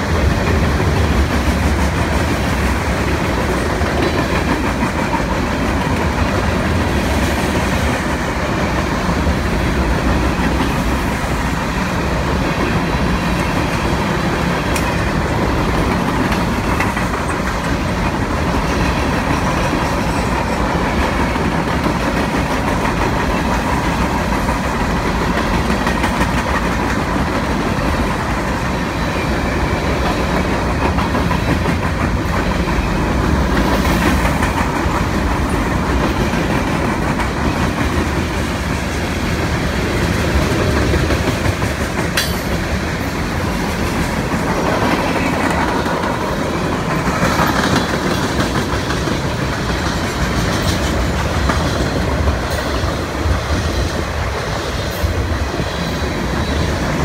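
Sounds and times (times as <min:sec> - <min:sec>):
train wheels rumbling and clacking: 0:00.0 - 0:57.0.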